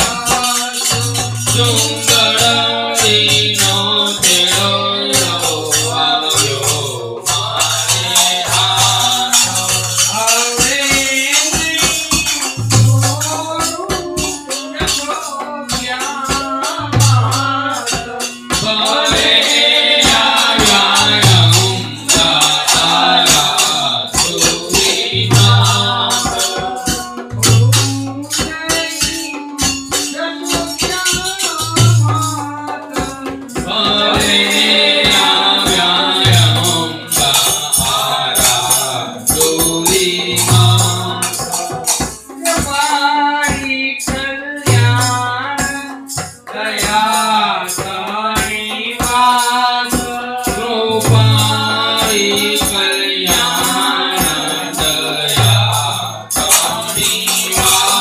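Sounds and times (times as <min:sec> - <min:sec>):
hand drum: 0:00.0 - 0:58.0
men singing: 0:00.0 - 0:58.0
small hand cymbals jingling: 0:00.0 - 0:58.0.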